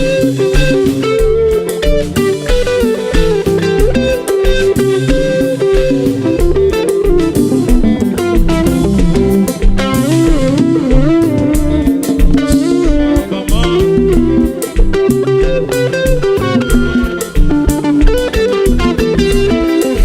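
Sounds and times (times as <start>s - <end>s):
bass: 0.0s - 20.0s
electric guitar melody: 0.0s - 20.0s
steady drum beat: 0.0s - 20.0s.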